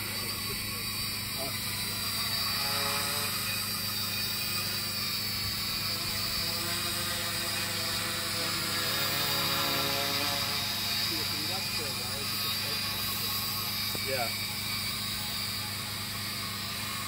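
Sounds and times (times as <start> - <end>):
quadcopter motors humming: 0.0 - 17.0.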